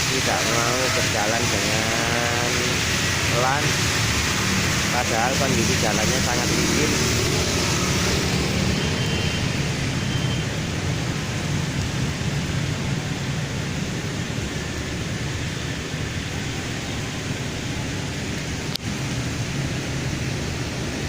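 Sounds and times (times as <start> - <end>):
rain hissing: 0.0 - 21.0
tyres swishing on wet road: 0.0 - 21.0.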